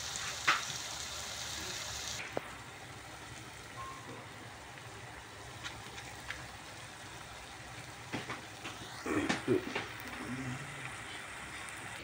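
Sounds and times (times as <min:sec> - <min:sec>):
fish paste sizzling in a wok: 0:00.0 - 0:12.0.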